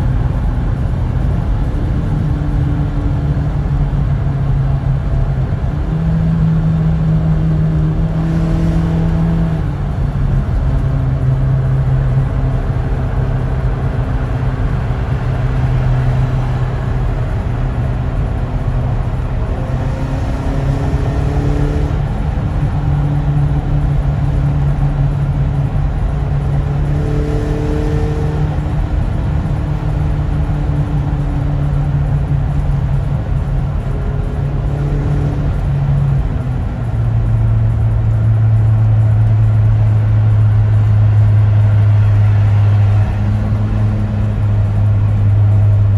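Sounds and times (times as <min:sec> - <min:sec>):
car exhaust engine running: 0:00.0 - 0:45.9.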